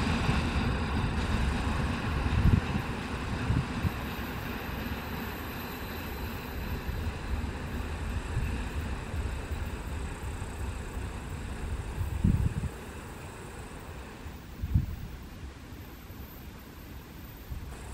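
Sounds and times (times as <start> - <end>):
freight train wheels rumbling: 0.0 - 17.9.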